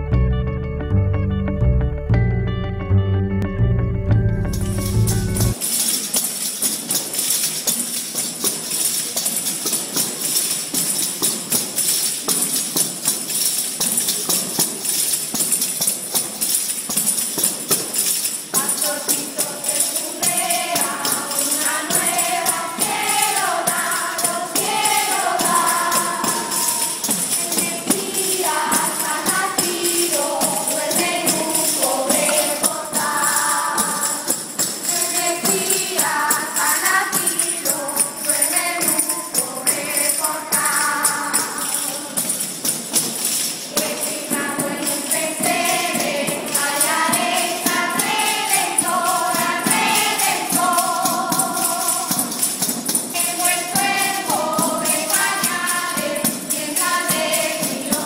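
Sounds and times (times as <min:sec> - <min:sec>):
frame drums with jingles: 0:04.2 - 0:58.0
women and girls singing: 0:07.2 - 0:58.0.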